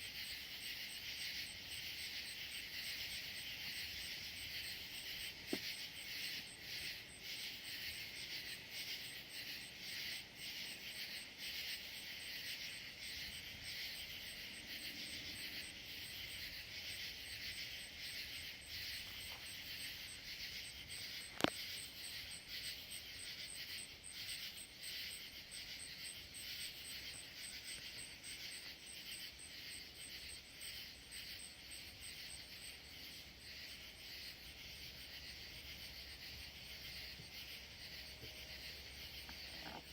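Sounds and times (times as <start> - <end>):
crickets trilling: 0.0 - 39.9
high pulsing insect chirp: 0.0 - 39.9.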